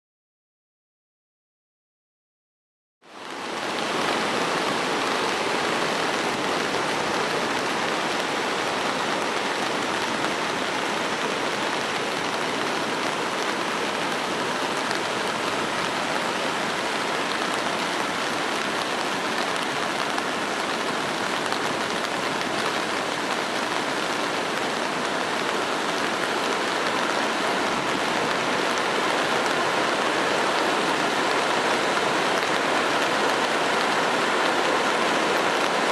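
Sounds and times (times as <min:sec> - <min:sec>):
rain falling on an umbrella: 0:03.0 - 0:35.9
waterfall rushing: 0:03.1 - 0:35.9.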